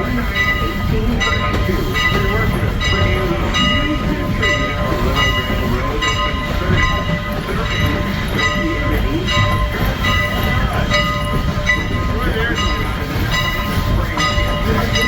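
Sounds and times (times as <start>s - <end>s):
bell-like ringing: 0.0s - 15.0s
train rumbling on rails: 0.0s - 15.0s.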